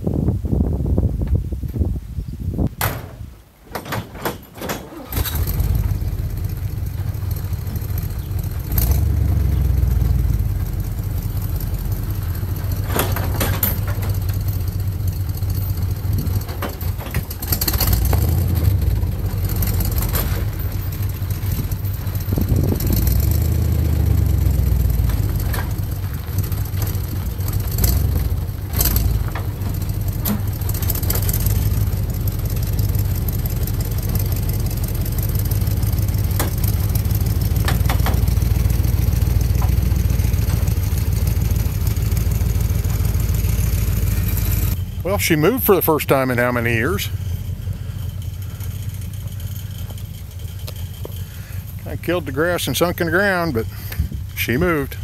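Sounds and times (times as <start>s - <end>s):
tow truck engine running: 3.2s - 55.0s.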